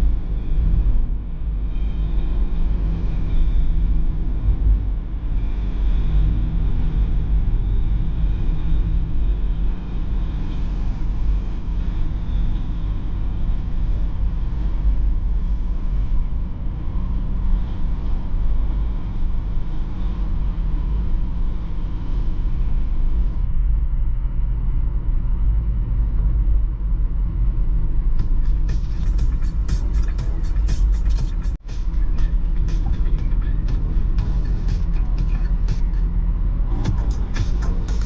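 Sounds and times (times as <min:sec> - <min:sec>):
car engine drone: 0:00.0 - 0:38.0.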